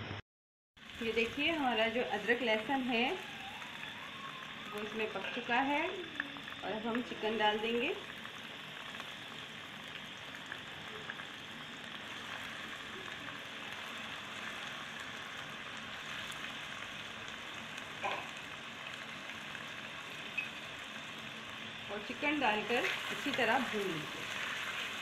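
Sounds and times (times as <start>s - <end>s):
chicken sizzling in hot oil: 0.8s - 25.0s.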